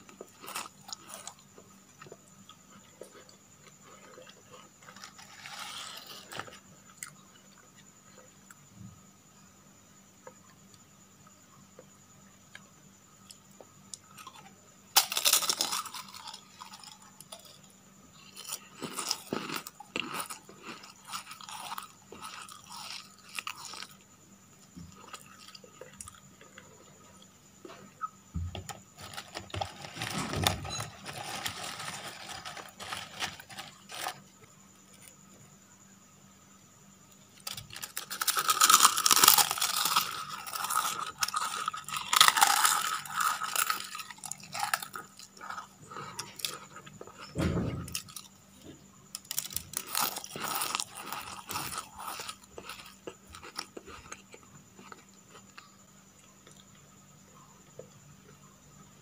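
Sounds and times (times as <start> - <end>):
wafers crunching and chewing: 0.0 - 8.6, 12.5 - 28.2, 28.9 - 35.2, 37.3 - 56.9.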